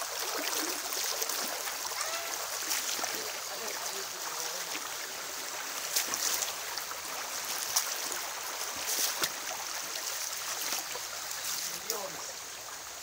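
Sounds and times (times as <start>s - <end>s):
children splashing in water: 0.0s - 5.0s, 5.8s - 6.7s, 7.3s - 12.2s
river running over rocks: 0.0s - 13.0s.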